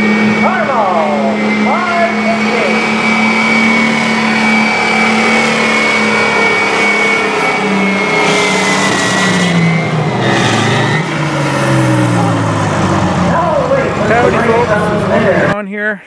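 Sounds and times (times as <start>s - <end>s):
engine running: 0.0s - 15.6s.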